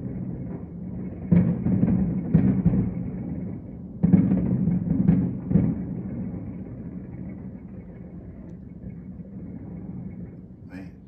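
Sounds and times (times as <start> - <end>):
distant fireworks booming: 0.0 - 11.0.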